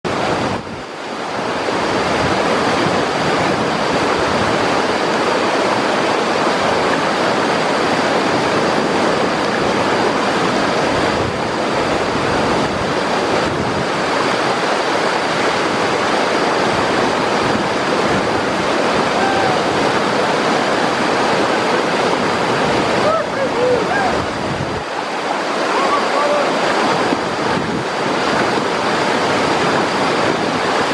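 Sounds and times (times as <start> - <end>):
river rapids rushing: 0.1 - 30.9.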